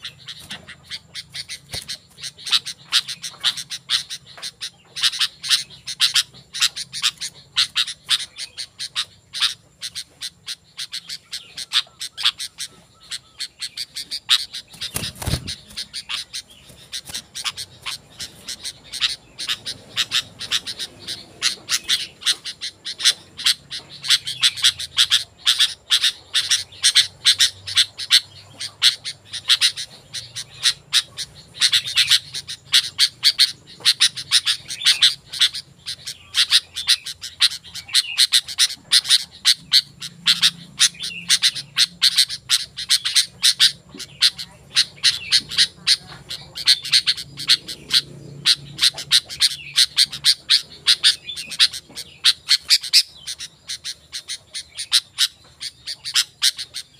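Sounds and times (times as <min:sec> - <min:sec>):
bulbuls chirping: 0:00.0 - 0:56.9.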